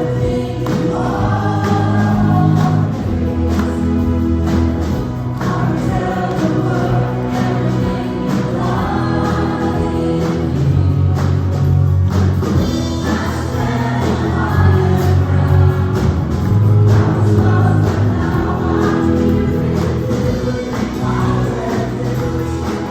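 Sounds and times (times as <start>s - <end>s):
group singing in chorus: 0.0s - 22.9s
instrumental accompaniment with beat: 0.0s - 22.9s.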